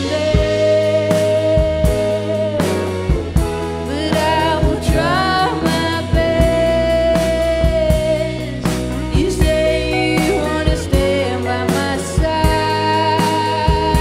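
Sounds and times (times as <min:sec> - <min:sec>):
drums: 0:00.0 - 0:14.0
guitar: 0:00.0 - 0:14.0
person singing: 0:00.0 - 0:14.0.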